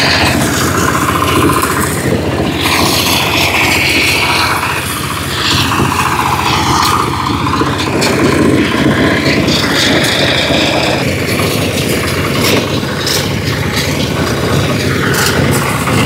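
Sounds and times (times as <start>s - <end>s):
small engines running under load: 0.0s - 16.0s.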